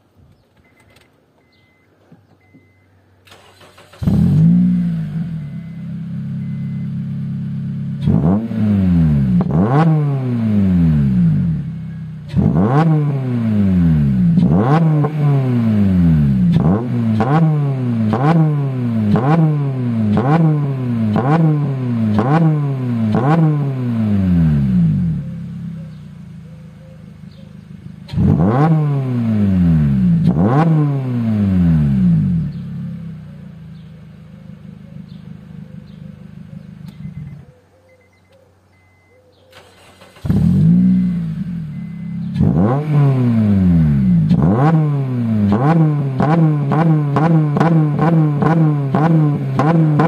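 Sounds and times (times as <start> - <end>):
car engine revving and idling: 0.7 - 50.0.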